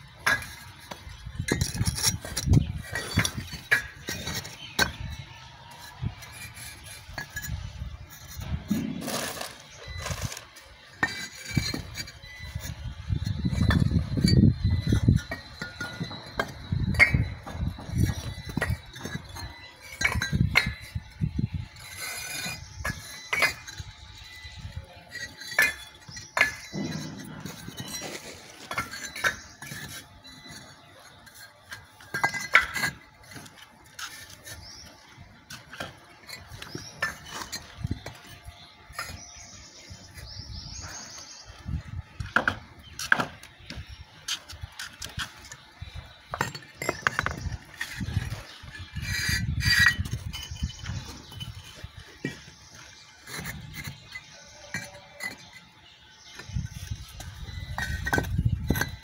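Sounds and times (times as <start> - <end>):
bricks clinking and knocking: 0.0 - 59.0.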